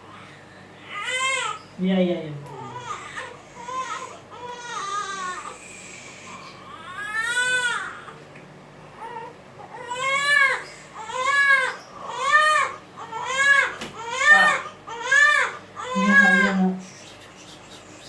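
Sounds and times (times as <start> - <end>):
infant crying: 0.1 - 1.6, 2.6 - 8.2, 9.0 - 16.8.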